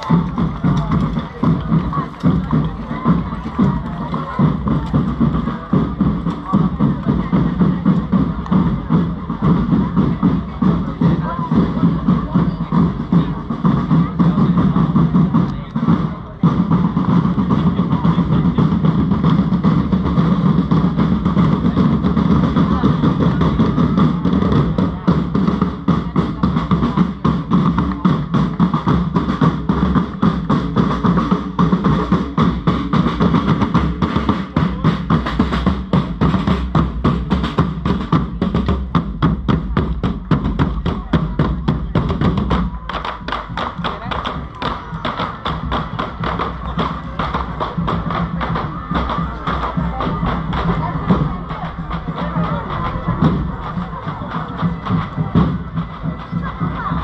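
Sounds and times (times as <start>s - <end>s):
parade drums beating: 0.0s - 57.0s.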